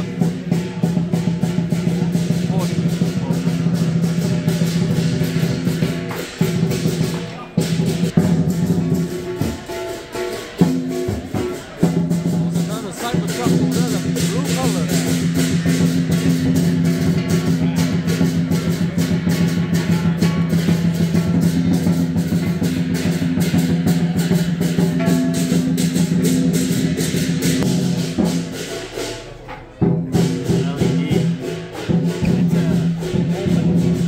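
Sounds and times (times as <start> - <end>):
fast percussion beat: 0.0 - 34.0.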